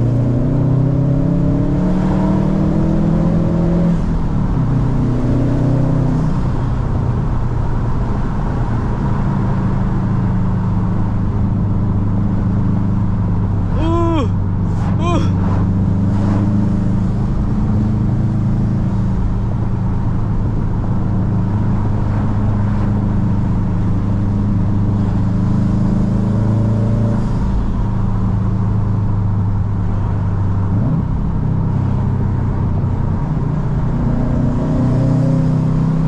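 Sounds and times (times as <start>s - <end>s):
car engine driving: 0.0s - 36.0s.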